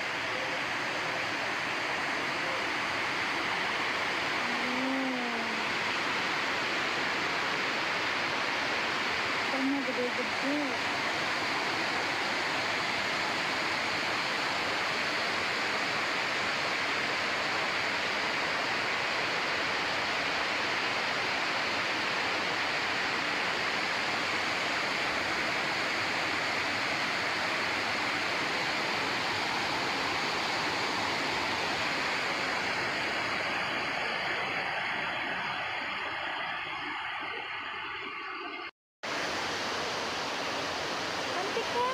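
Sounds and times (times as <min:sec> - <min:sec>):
waterfall splashing into pond: 0:00.0 - 0:41.9.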